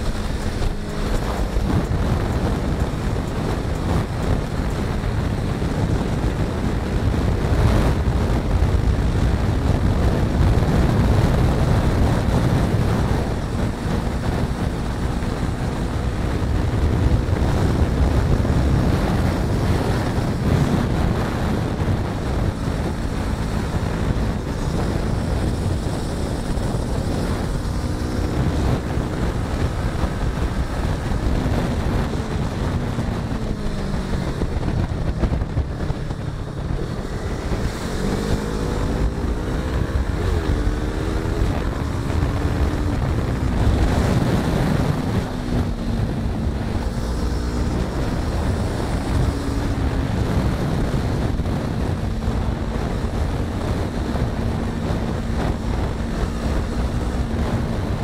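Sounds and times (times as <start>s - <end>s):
motorcycle engine running: 0.0s - 58.0s
wind rush over microphone: 0.0s - 58.0s.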